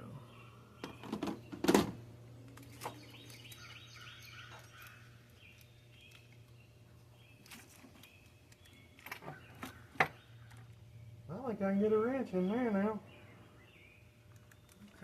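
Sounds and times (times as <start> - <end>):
faint bird chirping: 0.0 - 1.6, 2.5 - 15.0
steady low hum: 0.0 - 15.0.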